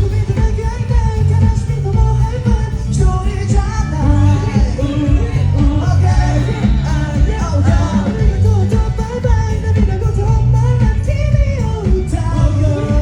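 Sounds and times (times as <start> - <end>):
person singing: 0.0 - 13.0
pop song over sound system: 0.0 - 13.0.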